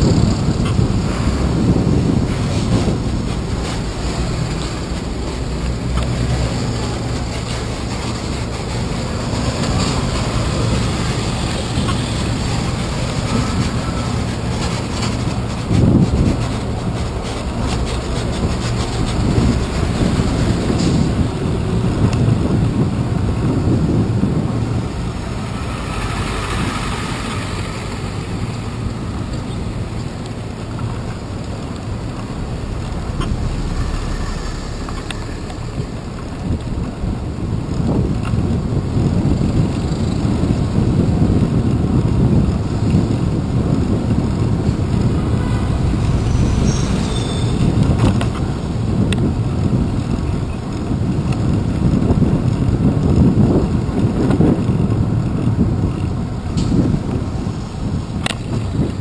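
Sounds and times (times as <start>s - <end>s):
truck engines and tyres rumbling: 0.0s - 59.0s
wind on microphone: 0.0s - 59.0s.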